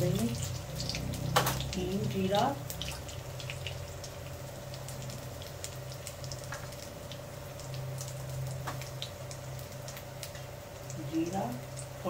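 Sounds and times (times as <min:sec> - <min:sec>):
oil sizzling: 0:00.0 - 0:12.0
steady low hum: 0:00.0 - 0:12.0
small crackles: 0:00.2 - 0:12.0.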